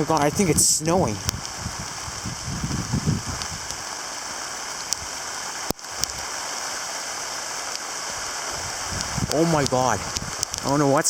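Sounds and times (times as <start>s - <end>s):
heavy rain with ice pellets: 0.0s - 11.0s.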